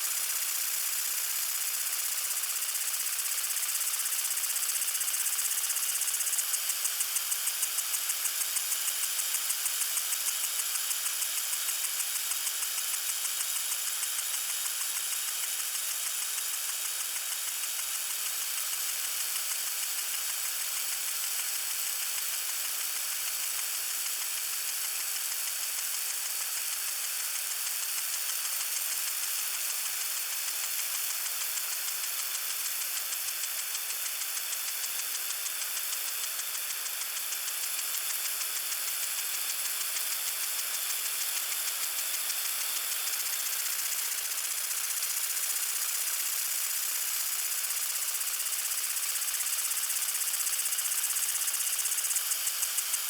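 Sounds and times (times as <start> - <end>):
lawn sprinkler hissing and ticking: 0.0 - 53.0.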